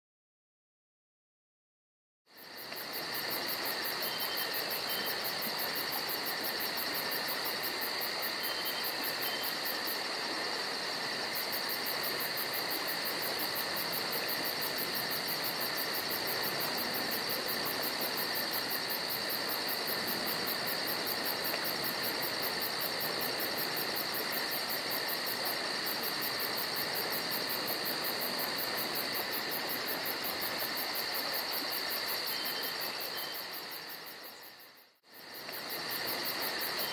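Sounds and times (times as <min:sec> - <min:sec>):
background hiss: 0:02.3 - 0:36.9
crickets trilling: 0:02.3 - 0:36.9.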